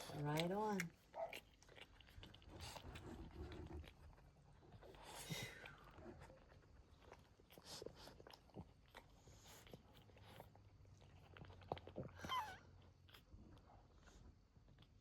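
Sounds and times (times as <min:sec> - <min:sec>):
puppies mouth clicks and smacks: 0:00.0 - 0:13.7.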